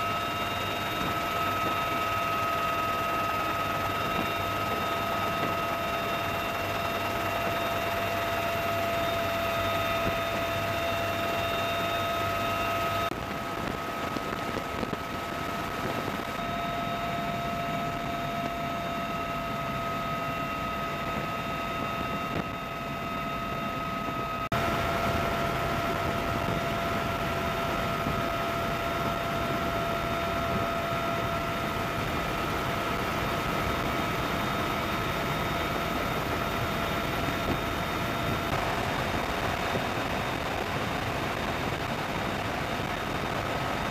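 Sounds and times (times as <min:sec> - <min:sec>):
helicopter engine and rotor din: 0:00.0 - 0:43.9
high even whine: 0:00.0 - 0:43.9.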